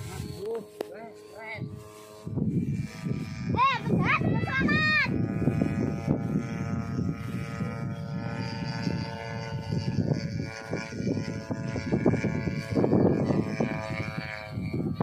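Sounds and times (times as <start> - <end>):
model plane engine droning: 0.0 - 15.0
wind rumble on microphone: 0.0 - 15.0.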